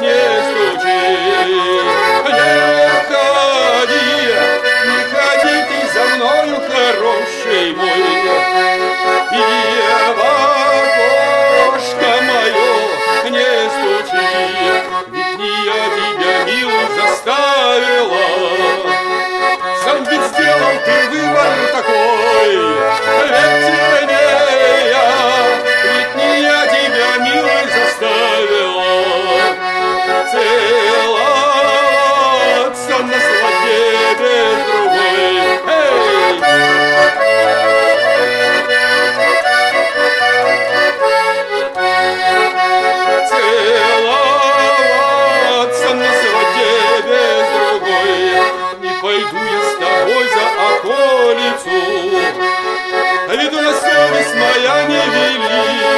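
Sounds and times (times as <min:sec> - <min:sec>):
button accordion playing: 0:00.0 - 0:55.9.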